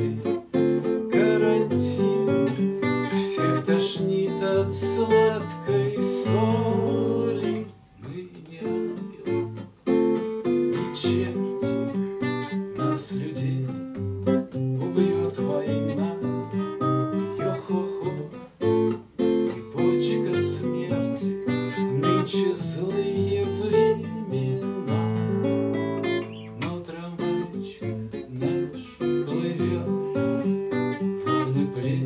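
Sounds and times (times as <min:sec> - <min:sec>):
classical guitar playing: 0:00.0 - 0:32.0.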